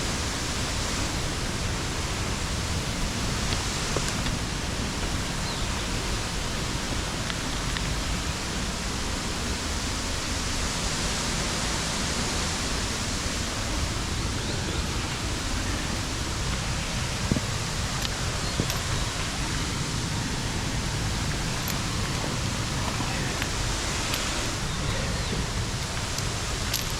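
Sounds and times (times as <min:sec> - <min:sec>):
stream and waterfalls rushing: 0:00.0 - 0:26.9.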